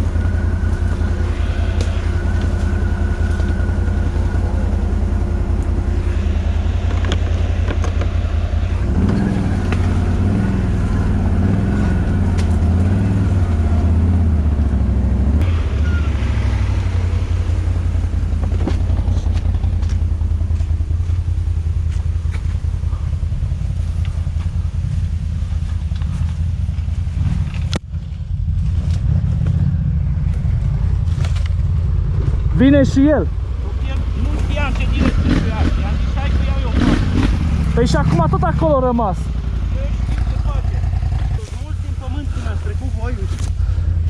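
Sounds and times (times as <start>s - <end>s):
atv engine revving: 0.0s - 44.0s.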